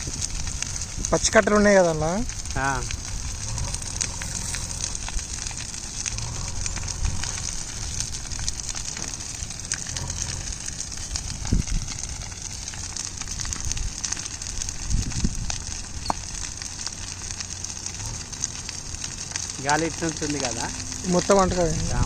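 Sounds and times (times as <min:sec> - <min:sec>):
brush fire crackling and hissing: 0:00.0 - 0:22.0.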